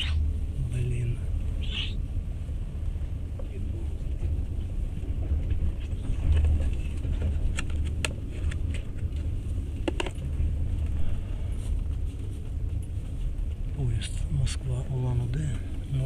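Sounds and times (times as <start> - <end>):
train carriage rumbling: 0.0 - 16.0.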